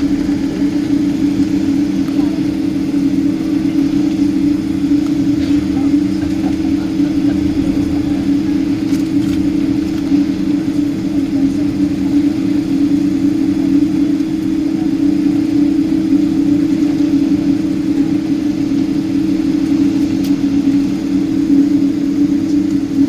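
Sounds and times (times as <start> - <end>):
jet engine drone in cabin: 0.0 - 23.0.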